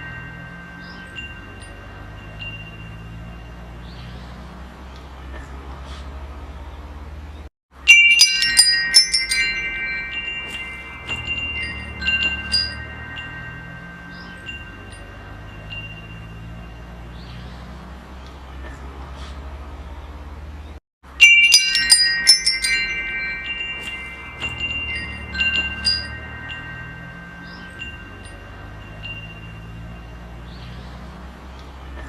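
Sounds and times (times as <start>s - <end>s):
wind chimes ringing: 0.0s - 5.3s, 7.7s - 19.0s, 21.0s - 32.0s.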